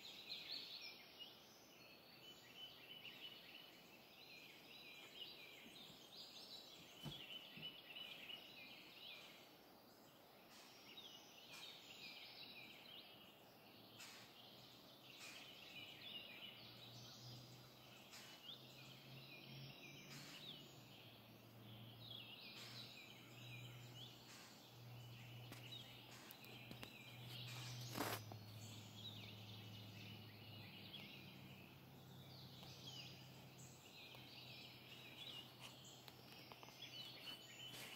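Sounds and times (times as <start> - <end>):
songbirds chirping: 0.0 - 37.9.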